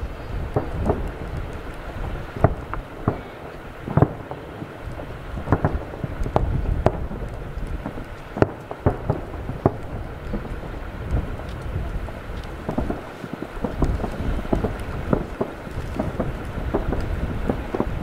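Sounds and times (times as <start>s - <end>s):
firework shells bursting: 0.0s - 18.0s
steady low rumble: 0.0s - 18.0s.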